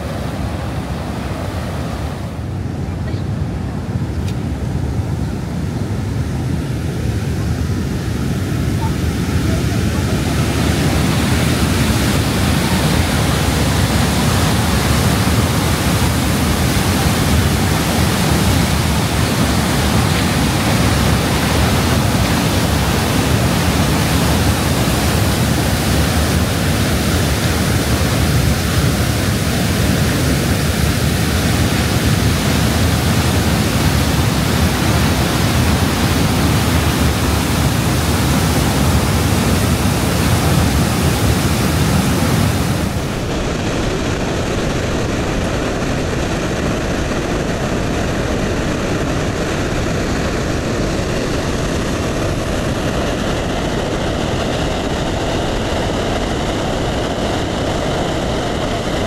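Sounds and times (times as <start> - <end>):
waterfall rushing onto rocks: 10.1 - 59.0.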